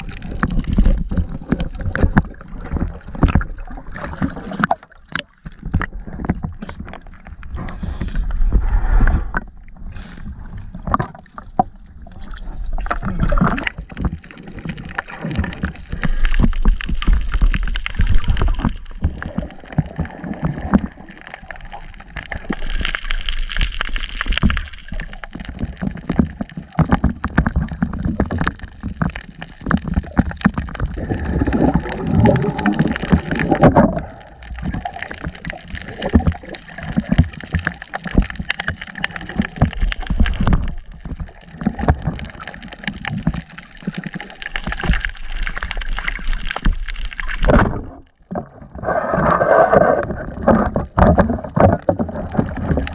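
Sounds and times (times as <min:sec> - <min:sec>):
water sloshing and gurgling: 0:00.0 - 0:52.9.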